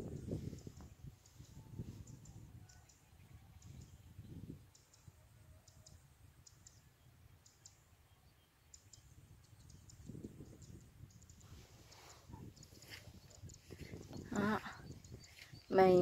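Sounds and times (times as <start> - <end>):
wind rumble on microphone: 0.0 - 7.5, 8.7 - 16.0.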